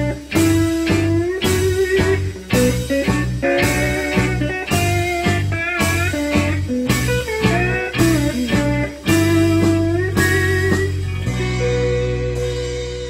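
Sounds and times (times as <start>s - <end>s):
slide electric guitar blues: 0.0s - 13.0s.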